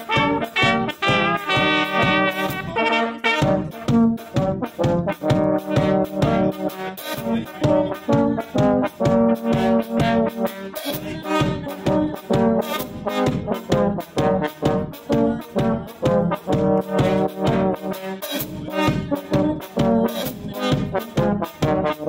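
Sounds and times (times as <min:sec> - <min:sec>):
bass drum beat: 0:00.0 - 0:22.0
brass band playing: 0:00.0 - 0:22.0.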